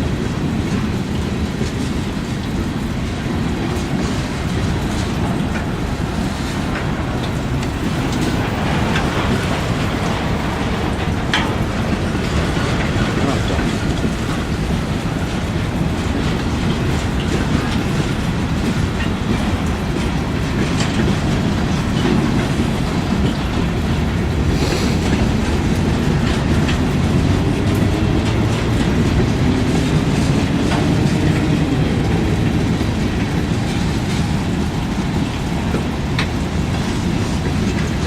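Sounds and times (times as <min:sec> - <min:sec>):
train wheels rumbling on rails: 0:00.0 - 0:38.0
wheels clicking over rail joints: 0:00.0 - 0:38.0.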